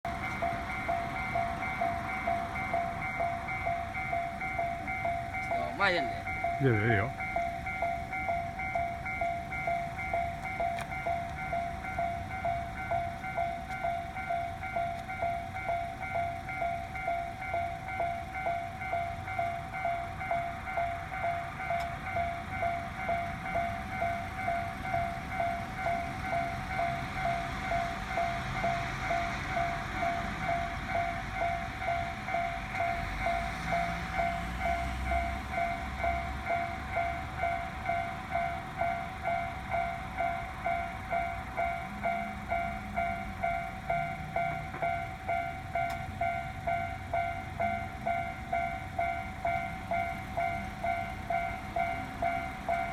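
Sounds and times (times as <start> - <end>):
level-crossing warning bell: 0.0 - 52.9
train passing: 0.0 - 52.9.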